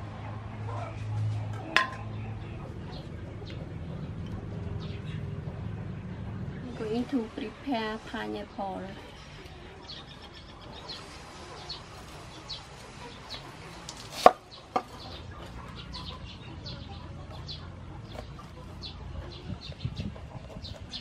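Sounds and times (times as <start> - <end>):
chickens clucking and peeping: 0.0 - 21.0.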